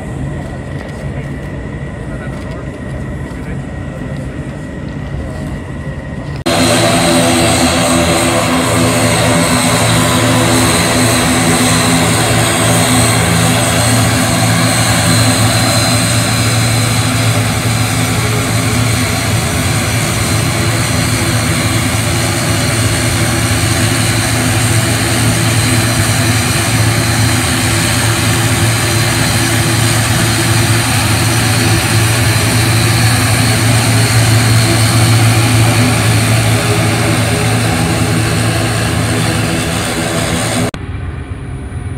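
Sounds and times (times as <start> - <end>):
turboprop aircraft taxiing: 0.0 - 41.9.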